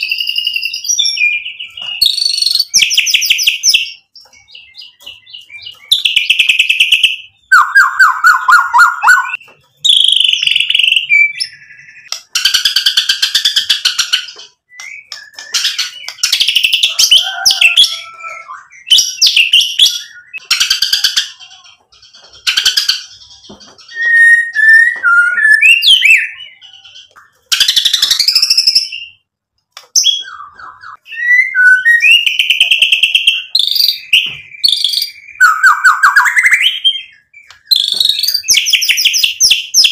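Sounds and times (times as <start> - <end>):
songbird singing: 0.0 - 29.2, 29.9 - 39.9.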